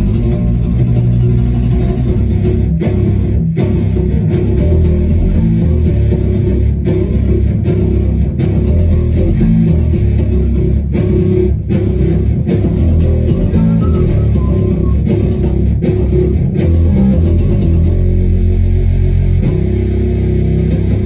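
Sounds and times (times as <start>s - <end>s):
electric bass guitar riff: 0.0s - 21.0s.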